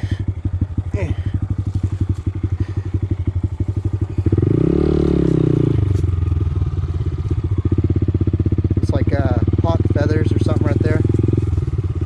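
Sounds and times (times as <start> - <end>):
motorcycle engine putting: 0.0 - 12.0.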